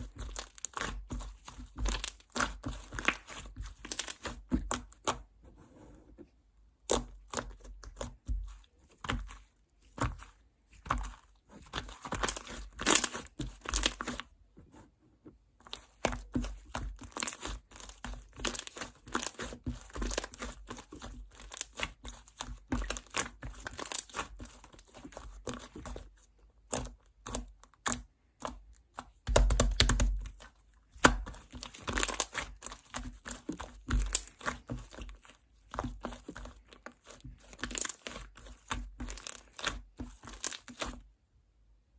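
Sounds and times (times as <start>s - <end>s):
slime squished by hand: 0.0s - 5.2s, 6.8s - 14.3s, 15.6s - 41.0s.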